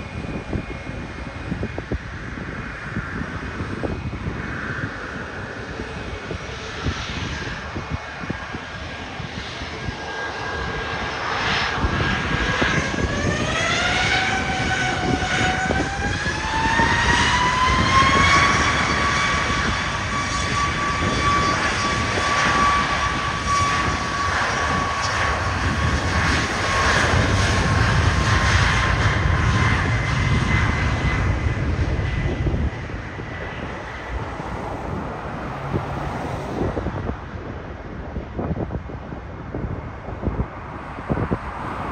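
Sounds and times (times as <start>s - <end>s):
jet engine rumble: 0.0s - 41.9s
jet engine whine: 0.0s - 41.9s.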